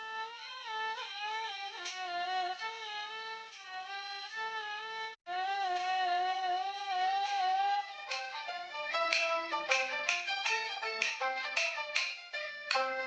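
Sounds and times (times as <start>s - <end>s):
opera music with bowed fiddle: 0.0s - 13.0s.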